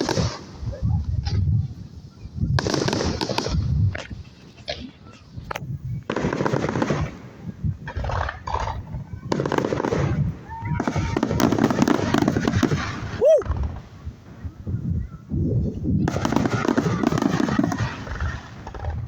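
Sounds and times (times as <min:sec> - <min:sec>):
fireworks crackling and popping: 0:00.0 - 0:14.5, 0:15.4 - 0:19.0.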